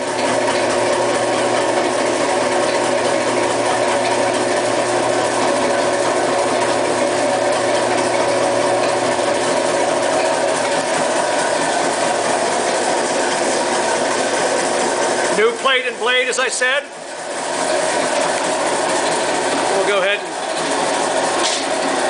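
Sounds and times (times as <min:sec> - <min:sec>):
meat grinder motor drone: 0:00.0 - 0:22.0.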